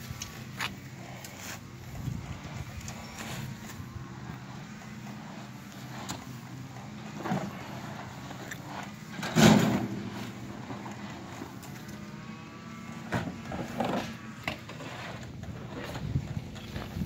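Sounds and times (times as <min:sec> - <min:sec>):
tools scraping in truck bed: 0:00.1 - 0:17.0.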